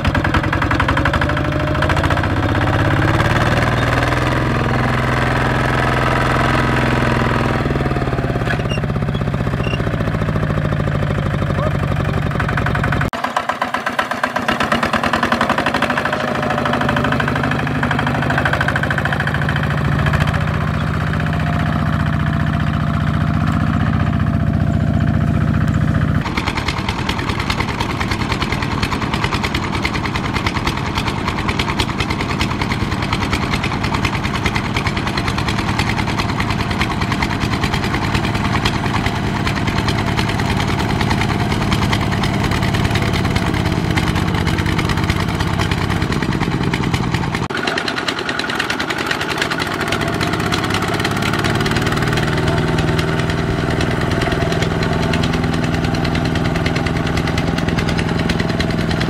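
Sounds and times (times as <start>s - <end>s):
diesel tractor engine knocking: 0.0s - 59.0s.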